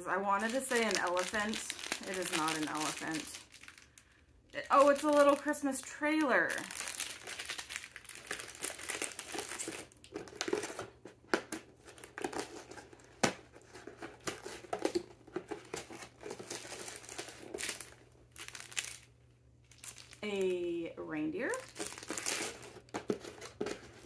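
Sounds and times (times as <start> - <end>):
cardboard and plastic bags crinkling: 0.0 - 20.6, 21.4 - 24.0.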